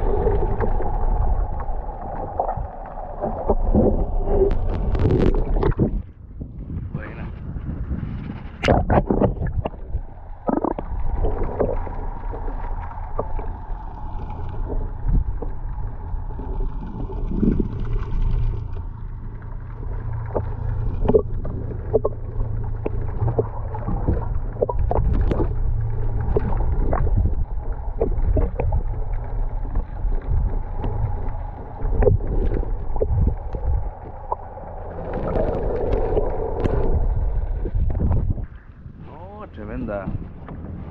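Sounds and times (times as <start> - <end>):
faint steady hum: 0.0 - 40.9
muffled underwater rumble: 0.0 - 40.9.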